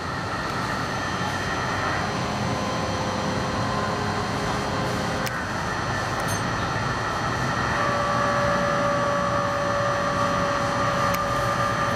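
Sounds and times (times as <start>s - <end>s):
faint whine: 0.0s - 11.9s.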